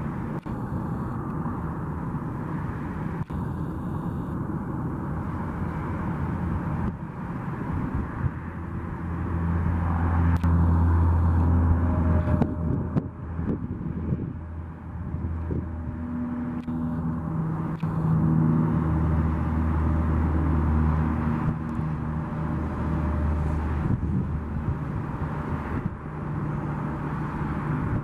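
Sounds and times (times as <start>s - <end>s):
low hum: 0.0s - 28.0s
steady engine noise: 0.0s - 28.0s.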